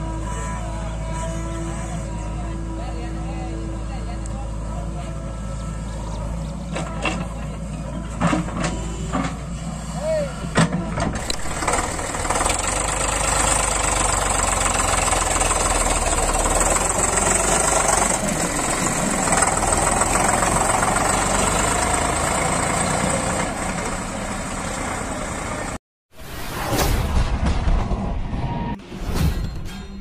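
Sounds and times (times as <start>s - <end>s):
tractor diesel engine running: 0.0s - 25.8s.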